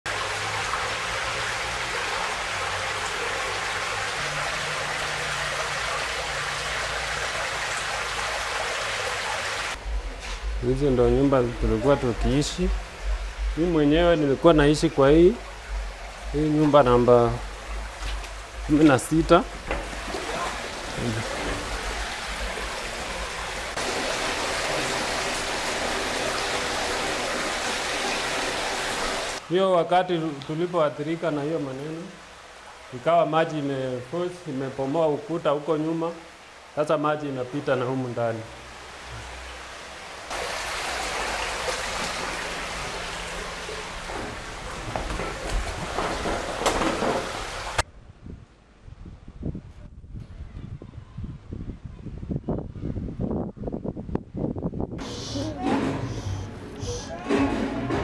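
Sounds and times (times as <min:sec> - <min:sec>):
floodwater rushing over a wall: 0:00.1 - 0:47.9.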